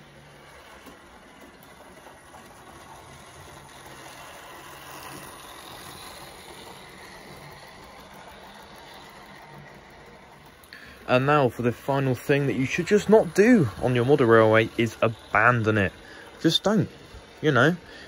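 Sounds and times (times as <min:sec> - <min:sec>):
model train whirring: 0:00.0 - 0:18.0
wheels rattling on rails: 0:00.0 - 0:18.0.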